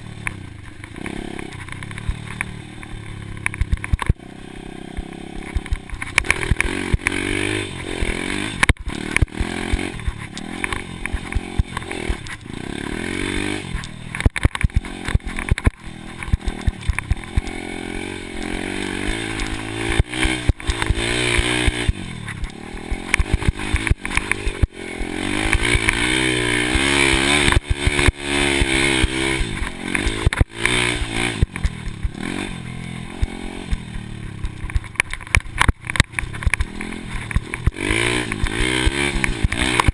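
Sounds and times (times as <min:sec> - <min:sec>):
dirt bike engine revving: 0:00.0 - 0:39.9
sharp knocks and clatter: 0:00.2 - 0:04.2, 0:04.9 - 0:39.9.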